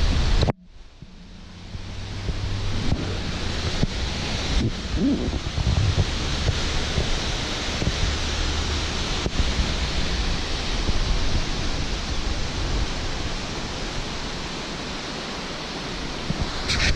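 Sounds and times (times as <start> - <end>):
waterfall rushing: 0.0 - 16.9
wind buffeting microphone: 0.0 - 16.9.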